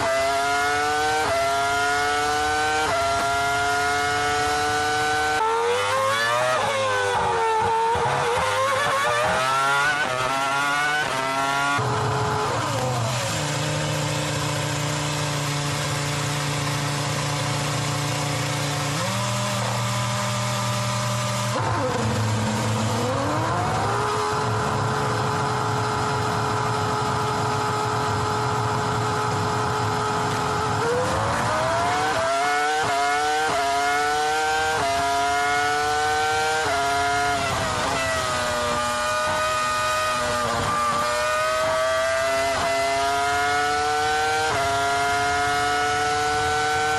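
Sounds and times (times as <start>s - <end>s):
engine at speed limiter: 0.0s - 46.9s
racing engine accelerating and upshifting: 0.0s - 46.9s.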